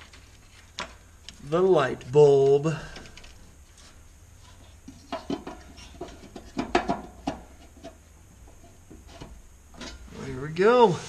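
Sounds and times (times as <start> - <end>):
rustling of wiring: 0.0 - 11.0.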